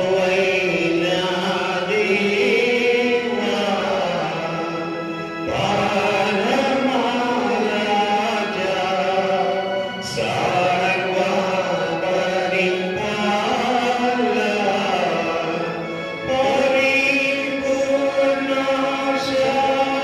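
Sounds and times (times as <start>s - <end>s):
person chanting: 0.0s - 20.0s.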